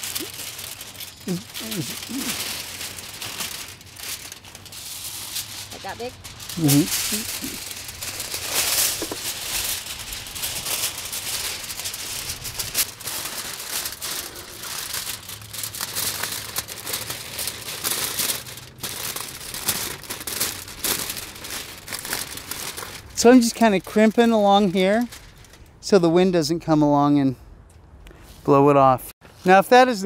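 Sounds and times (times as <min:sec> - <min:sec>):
aluminium foil crinkling: 0:00.0 - 0:25.8.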